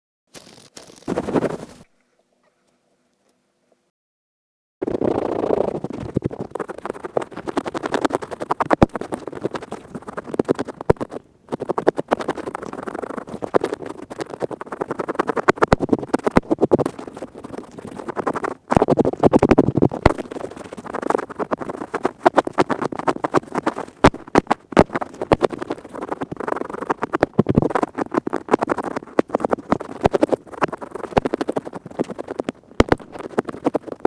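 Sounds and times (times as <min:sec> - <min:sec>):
earpick scratching: 0:00.3 - 0:01.9, 0:04.8 - 0:34.0.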